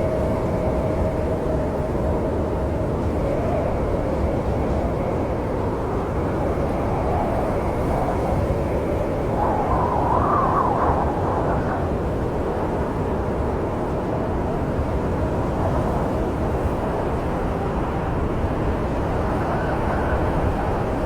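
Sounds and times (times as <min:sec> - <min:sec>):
faint wind whistle: 0:00.0 - 0:21.0
wind blowing low rumble: 0:00.0 - 0:21.0.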